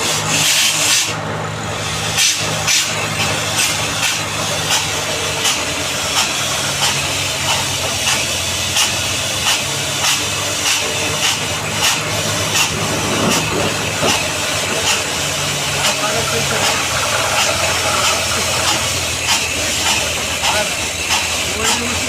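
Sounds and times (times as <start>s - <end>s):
drilling rig engine running: 0.0s - 22.0s.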